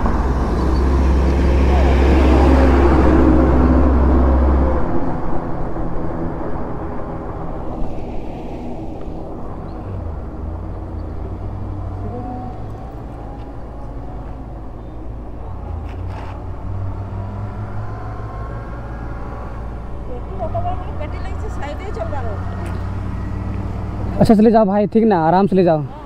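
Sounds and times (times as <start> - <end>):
vehicle engine running: 0.0 - 24.3.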